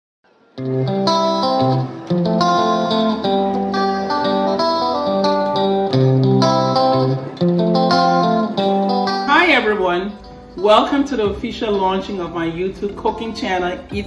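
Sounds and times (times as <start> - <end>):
guitar chords rhythm: 0.5 - 14.0.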